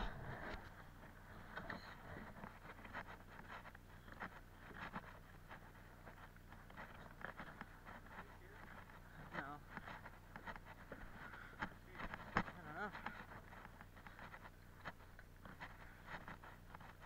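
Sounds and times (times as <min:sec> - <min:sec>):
footsteps on wooden deck: 0:00.0 - 0:17.0
low steady hum: 0:00.0 - 0:17.0.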